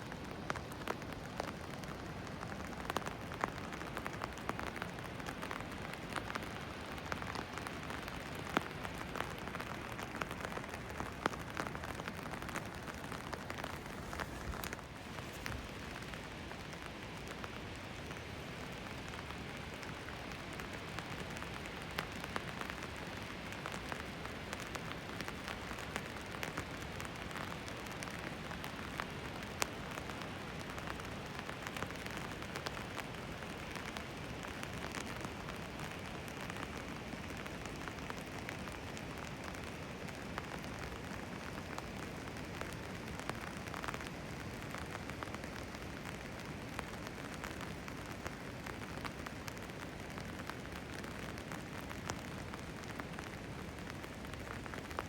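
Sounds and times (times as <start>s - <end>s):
raindrops clicking close by: 0.0s - 55.0s
steady rain: 0.0s - 55.0s.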